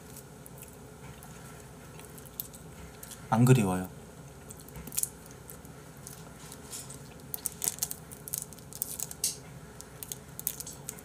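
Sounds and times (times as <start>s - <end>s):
person chewing food: 0.0s - 3.3s, 4.2s - 11.0s.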